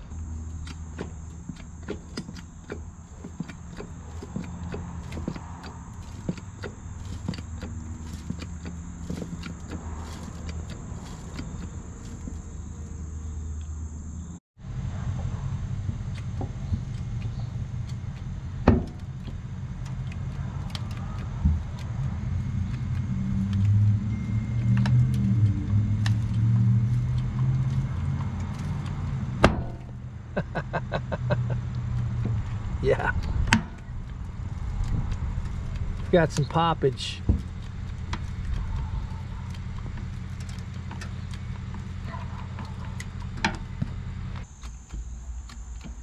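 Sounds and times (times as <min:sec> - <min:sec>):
steady low hum: 0:00.0 - 0:46.0
sharp metal knocks and pops: 0:00.4 - 0:12.4, 0:15.8 - 0:22.0, 0:24.6 - 0:30.6, 0:31.7 - 0:46.0.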